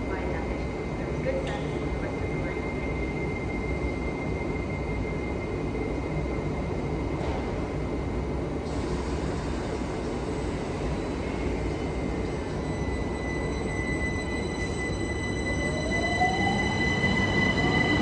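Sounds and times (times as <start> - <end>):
electric train rumble and hum: 0.0 - 18.0
high whine of traction equipment: 0.0 - 18.0.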